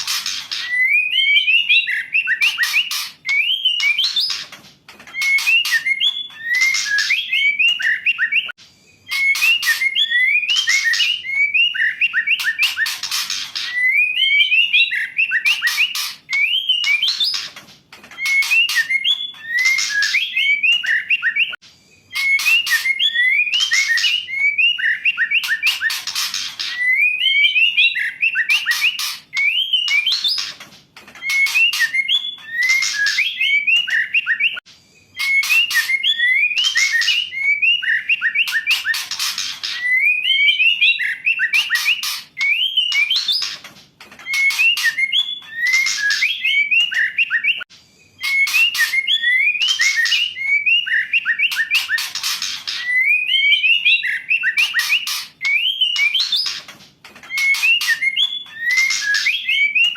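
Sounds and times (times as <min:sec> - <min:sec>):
bird singing whistled notes: 0:00.0 - 0:04.5, 0:05.1 - 0:17.5, 0:18.2 - 0:30.6, 0:31.2 - 0:43.6, 0:44.2 - 0:56.6, 0:57.3 - 0:59.9.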